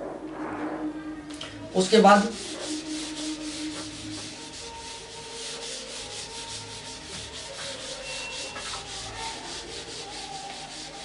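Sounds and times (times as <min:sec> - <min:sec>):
duster rubbing on whiteboard: 0:01.8 - 0:11.0.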